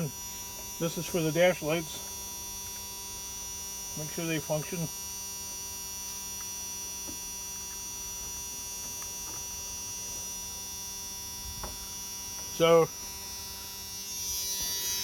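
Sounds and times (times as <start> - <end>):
dashboard warning buzzer: 0.0 - 15.0.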